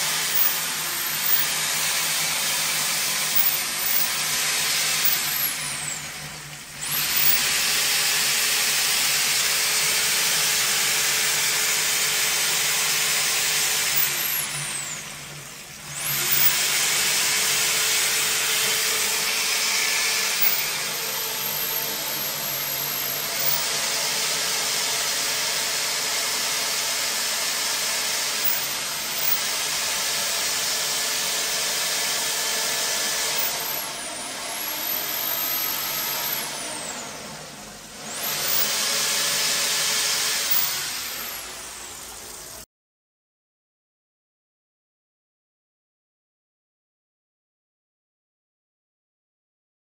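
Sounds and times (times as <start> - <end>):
power drill spinning drain snake: 0.0 - 42.7.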